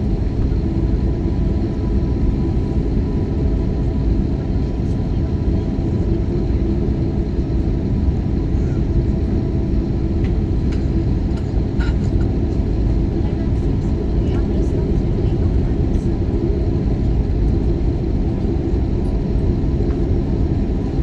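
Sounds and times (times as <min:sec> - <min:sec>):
aircraft cabin rumble: 0:00.0 - 0:21.0.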